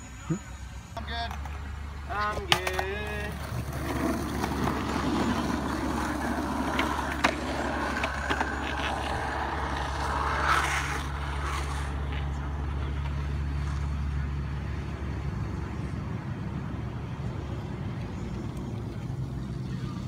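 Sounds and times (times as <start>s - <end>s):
skateboard wheels rolling on asphalt: 1.0s - 20.0s.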